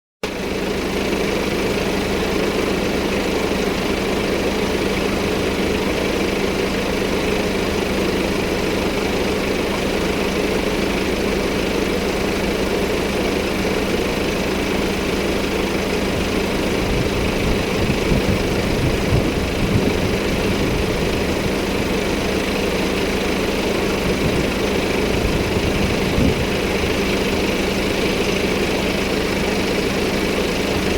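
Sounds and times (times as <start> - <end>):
diesel car engine idling: 0.2 - 30.9.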